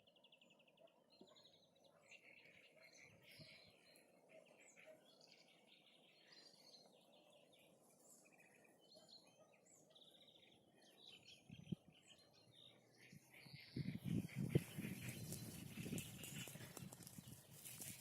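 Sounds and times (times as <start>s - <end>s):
chorus of songbirds: 0.0s - 18.0s.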